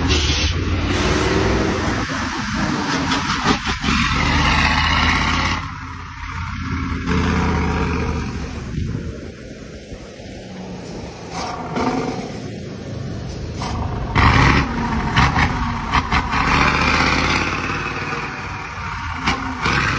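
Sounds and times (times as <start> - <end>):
broad rushing noise: 0.0 - 19.9
bus engine droning: 0.0 - 19.9.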